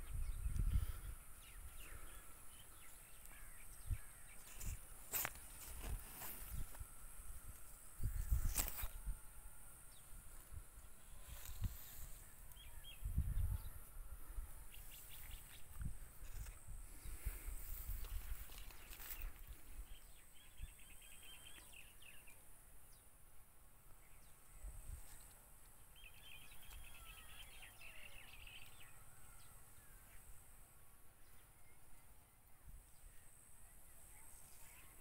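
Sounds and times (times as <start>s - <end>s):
faint outdoor background noise: 0.0s - 35.0s.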